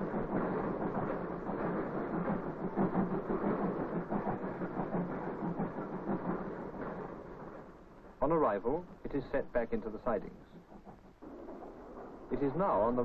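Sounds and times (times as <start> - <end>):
train rumbling along track: 0.0 - 13.0
wheels clacking over rail joints: 0.0 - 13.0.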